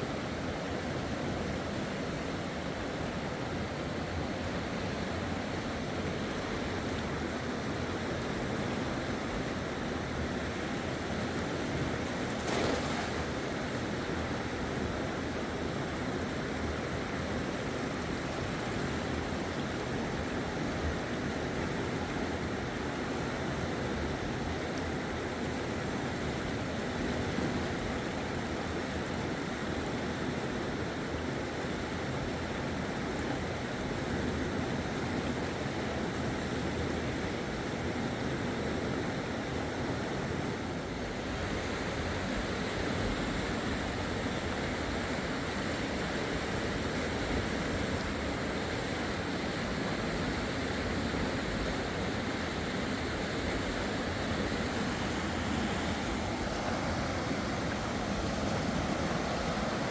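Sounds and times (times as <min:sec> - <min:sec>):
fast-flowing river water: 0:00.0 - 0:59.9.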